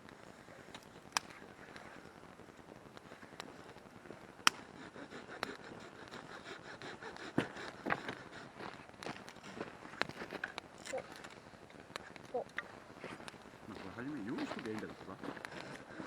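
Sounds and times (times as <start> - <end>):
campfire hissing and popping: 0.0 - 16.0.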